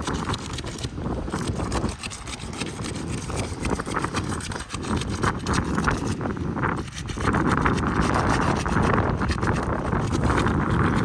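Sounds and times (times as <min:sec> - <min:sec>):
shingles scraping and tearing: 0:00.0 - 0:11.0.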